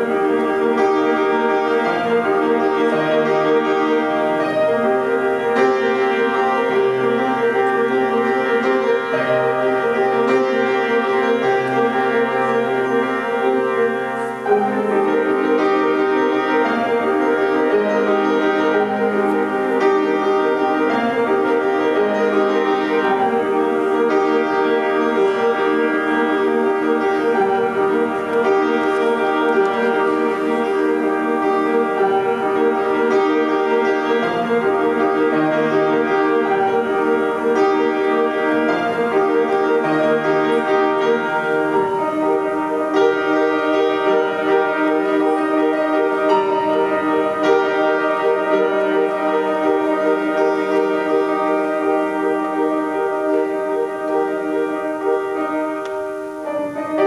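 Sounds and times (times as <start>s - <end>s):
grand piano piece: 0.0s - 57.0s.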